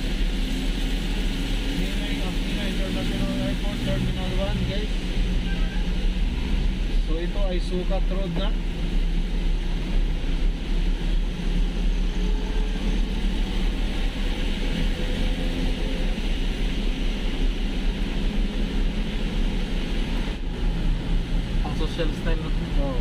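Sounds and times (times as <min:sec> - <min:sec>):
low engine hum: 0:00.0 - 0:23.0
tyres hissing on wet road: 0:00.0 - 0:23.0.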